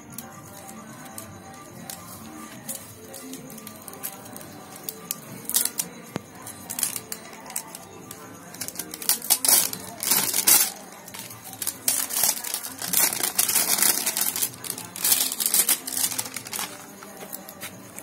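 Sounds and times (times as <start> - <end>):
plastic wrapping crinkling and tearing: 1.9 - 18.0.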